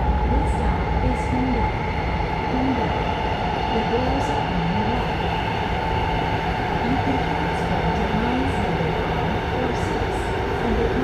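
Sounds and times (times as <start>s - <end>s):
constant hum: 0.0s - 11.0s
train wheels rumbling: 0.0s - 11.0s.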